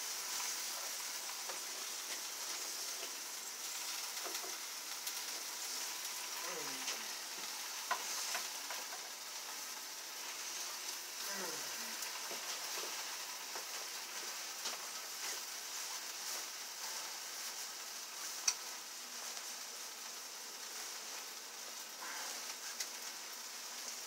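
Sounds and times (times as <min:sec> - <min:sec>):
food sizzling on a grill: 0:00.0 - 0:24.0.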